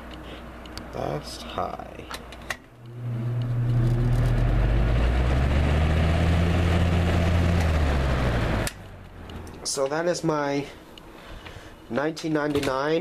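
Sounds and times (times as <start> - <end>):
fan motor hum and air rush: 0.0 - 13.0.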